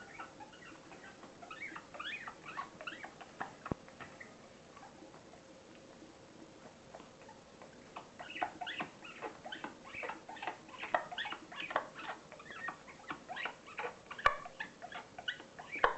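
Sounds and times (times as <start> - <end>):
pet high-pitched squeaks: 0.0 - 5.0, 6.9 - 15.9.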